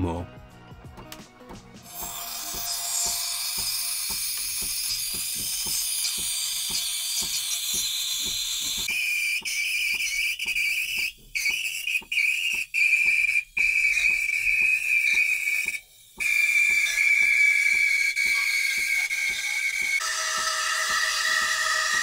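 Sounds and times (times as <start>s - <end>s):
steam wand steaming milk: 1.8s - 22.0s.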